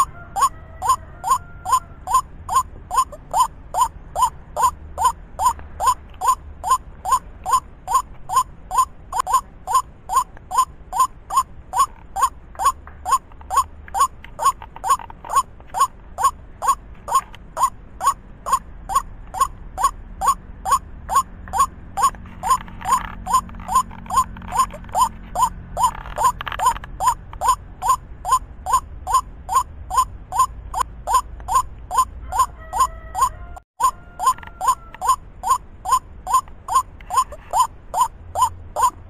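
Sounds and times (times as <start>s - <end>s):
bird croaking call: 0.0s - 39.0s.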